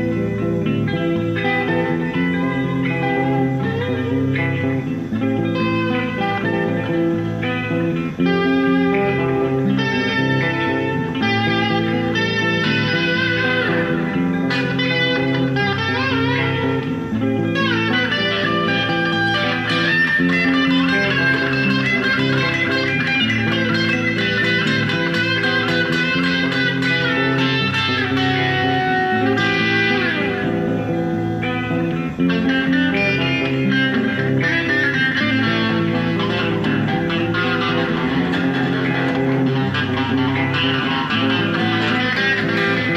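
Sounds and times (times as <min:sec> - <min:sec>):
electric guitar sustained notes: 0:00.0 - 0:42.9.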